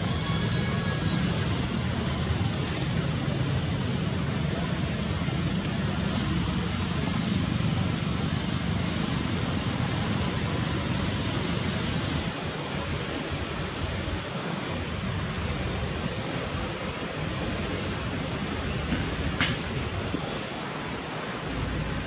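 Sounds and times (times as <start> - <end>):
rushing outdoor noise: 0.0 - 22.0.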